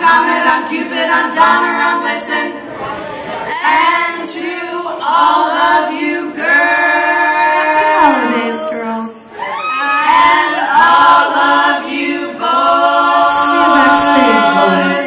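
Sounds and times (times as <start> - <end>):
women singing a cappella: 0.0 - 2.7, 3.4 - 15.0.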